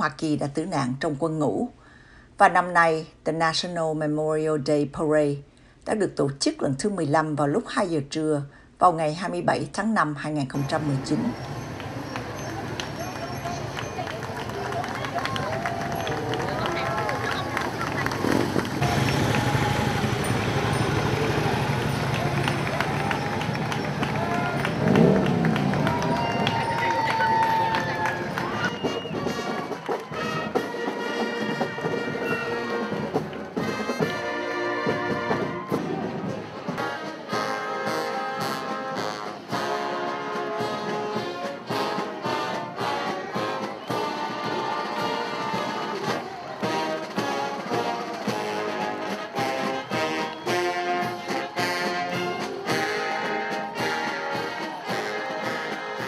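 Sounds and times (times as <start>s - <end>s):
brass band playing: 10.6s - 56.0s.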